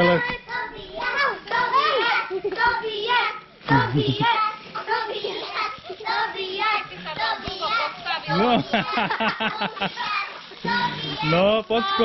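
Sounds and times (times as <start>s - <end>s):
children calling and chanting: 0.0s - 12.0s.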